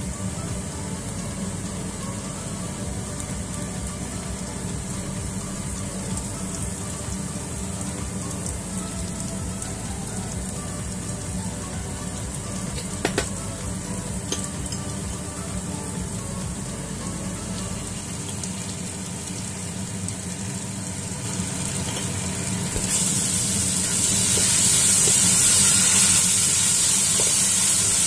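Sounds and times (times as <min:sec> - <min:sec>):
garlic sizzling in oil: 0:00.0 - 0:28.0.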